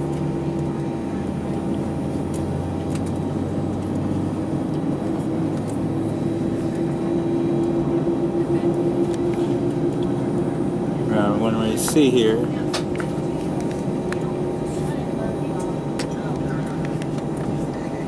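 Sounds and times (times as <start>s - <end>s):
jet engines humming: 0.0s - 18.0s.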